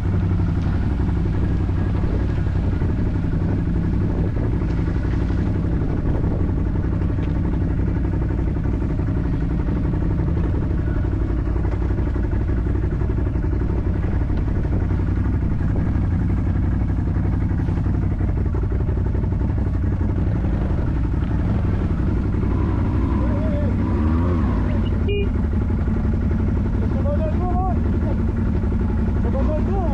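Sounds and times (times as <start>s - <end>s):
atv engine running: 0.0s - 29.9s.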